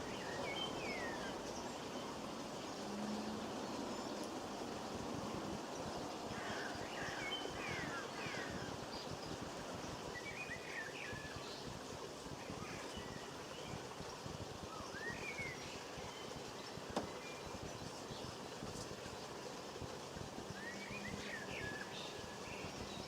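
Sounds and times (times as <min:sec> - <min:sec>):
outdoor background hiss: 0:00.0 - 0:23.0.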